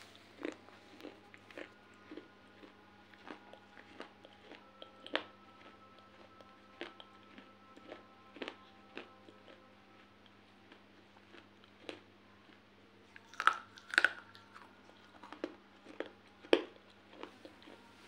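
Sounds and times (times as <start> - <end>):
teeth crunching baked clay: 0.0 - 17.9.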